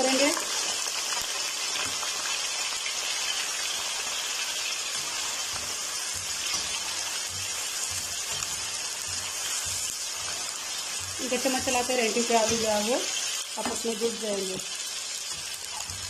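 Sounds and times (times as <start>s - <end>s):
potatoes sizzling in hot oil: 0.0s - 16.0s.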